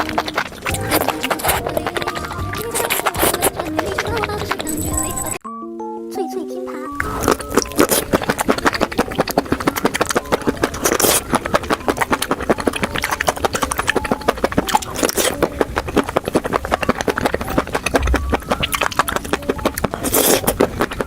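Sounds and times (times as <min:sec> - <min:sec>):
chewing: 0:00.0 - 0:05.4, 0:07.0 - 0:21.0
wet mouth clicks: 0:00.0 - 0:05.4, 0:07.0 - 0:21.0.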